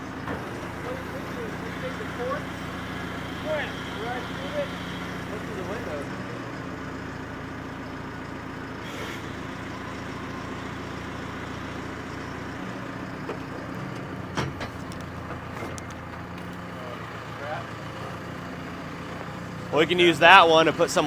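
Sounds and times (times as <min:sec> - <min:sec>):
large engine running: 0:00.0 - 0:21.0.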